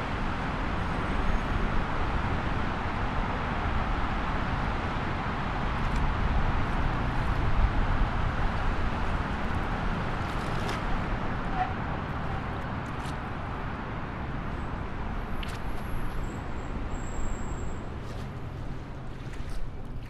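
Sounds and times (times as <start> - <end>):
wind rumble and hiss: 0.0 - 19.2.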